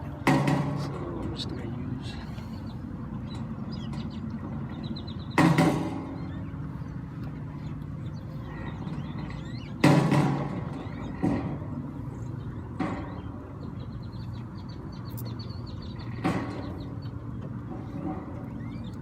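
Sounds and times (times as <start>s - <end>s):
sharp knocks and clatters: 0.0s - 2.3s, 3.1s - 19.0s
low hum: 0.0s - 19.0s.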